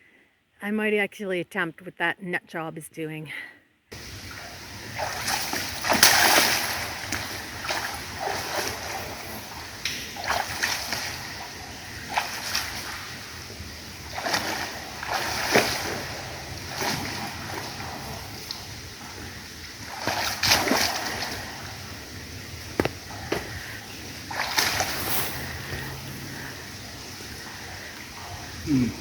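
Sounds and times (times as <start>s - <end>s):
feet splashing through water and mud: 3.9s - 28.6s.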